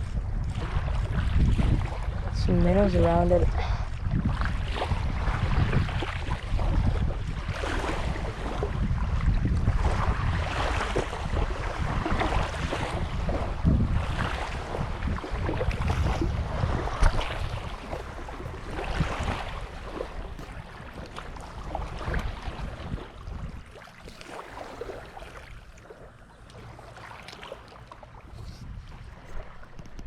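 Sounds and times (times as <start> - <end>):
wind buffeting microphone: 0.0 - 27.1, 27.8 - 30.0.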